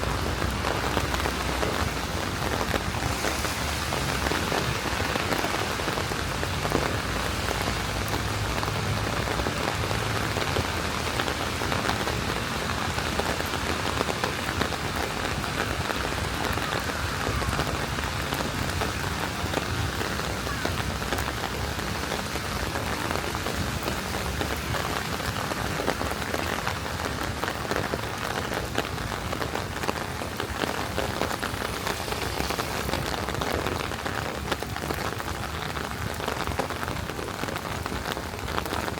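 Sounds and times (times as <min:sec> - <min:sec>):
rain falling on wet pavement: 0:00.0 - 0:38.9.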